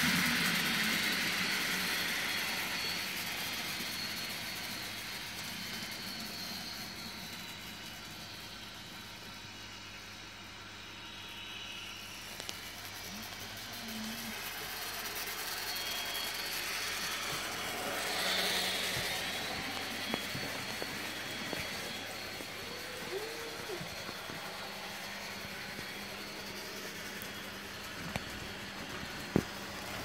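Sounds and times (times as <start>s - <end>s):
model train motor whirring: 0.0s - 30.0s.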